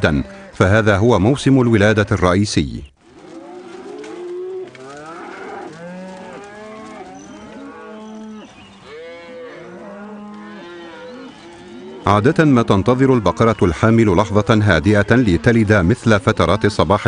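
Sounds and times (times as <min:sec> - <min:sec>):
buffalo herd lowing: 0:03.0 - 0:17.0.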